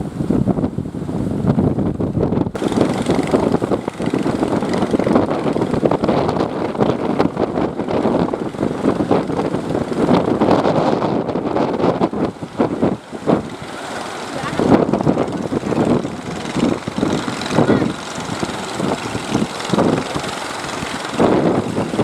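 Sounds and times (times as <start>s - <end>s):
wind buffeting microphone: 0.0s - 22.0s
boat motor droning: 2.5s - 22.0s.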